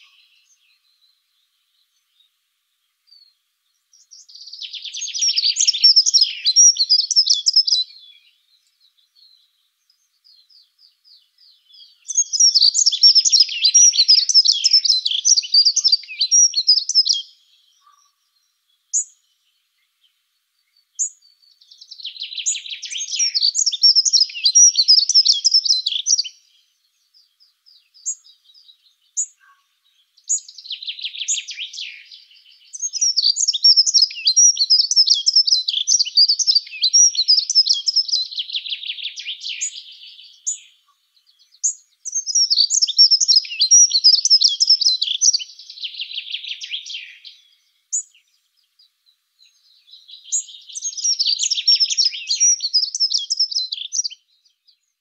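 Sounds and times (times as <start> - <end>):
bird warbling song: 0.0 - 55.0.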